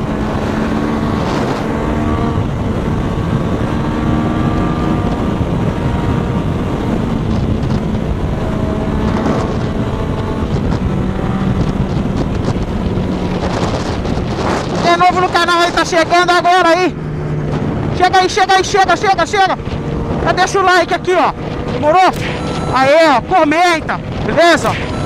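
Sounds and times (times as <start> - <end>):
motorcycle engine cruising: 0.0 - 25.0
wind noise on microphone: 0.0 - 25.0.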